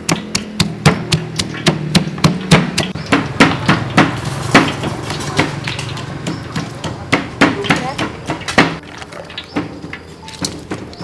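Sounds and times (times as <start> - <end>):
pestle pounding in stone mortar: 0.0 - 11.0.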